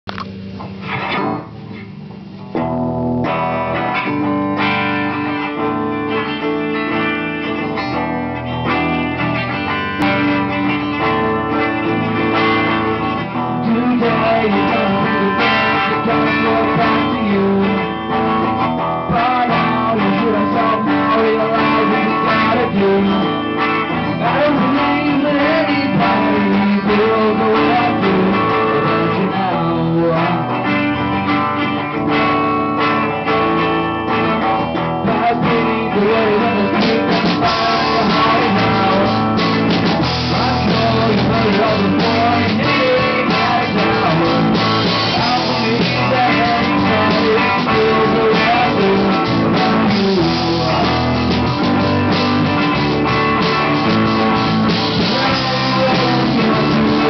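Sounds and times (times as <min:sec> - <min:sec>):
guitar plucked and strummed: 0:00.1 - 0:57.0.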